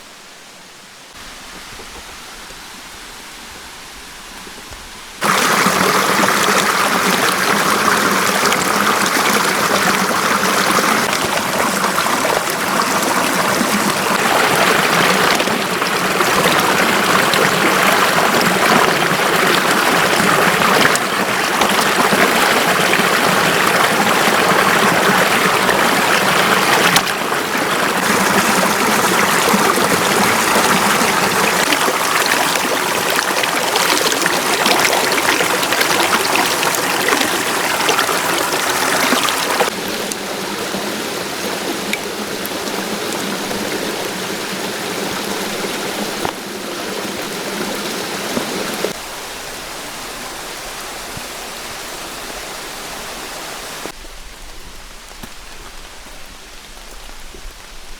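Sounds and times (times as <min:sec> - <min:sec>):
mountain stream rushing: 0:00.0 - 0:57.9.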